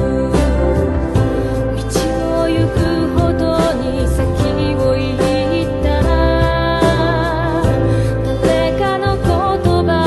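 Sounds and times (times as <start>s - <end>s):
person singing with vibrato: 0.0s - 10.0s.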